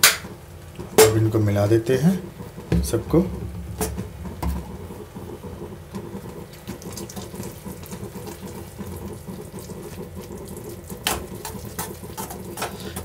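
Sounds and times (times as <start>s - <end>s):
wet noodles churning: 0.5s - 13.0s.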